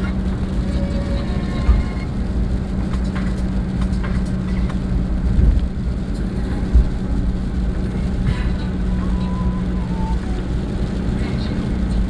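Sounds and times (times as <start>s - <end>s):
car driving heard from cabin: 0.0s - 12.0s.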